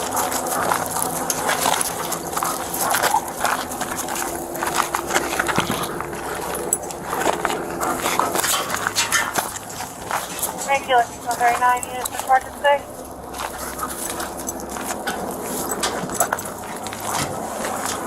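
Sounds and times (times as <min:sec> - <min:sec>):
clicks and scuffs: 0:00.0 - 0:18.0
dog panting: 0:00.0 - 0:18.0
faint steady hum: 0:00.0 - 0:18.0
footsteps: 0:00.0 - 0:18.0
gear rustling: 0:00.0 - 0:18.0.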